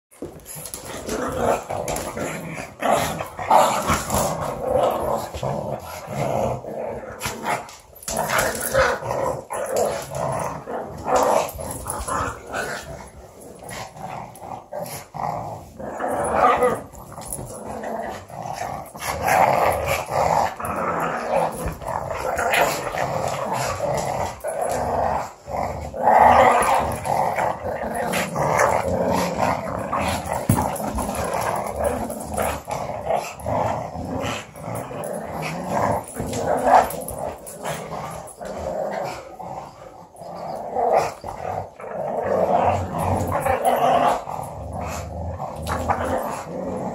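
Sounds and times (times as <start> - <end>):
dog play growling: 0.2 - 46.9.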